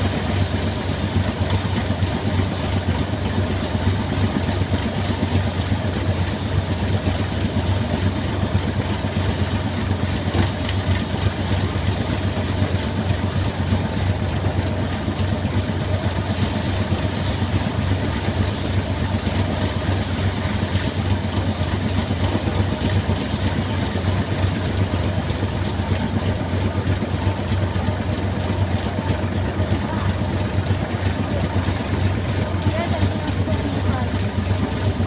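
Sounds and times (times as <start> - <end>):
tractor engine driving thresher: 0.0 - 35.0.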